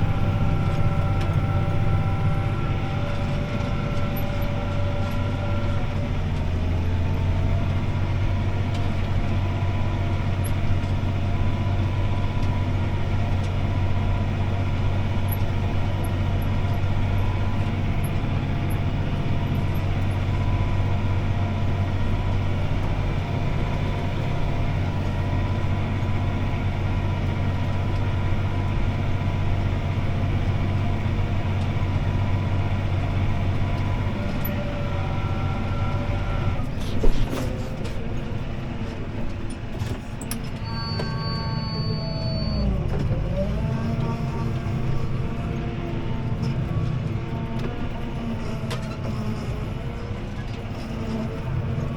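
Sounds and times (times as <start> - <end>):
tractor engine droning: 0.0 - 51.9.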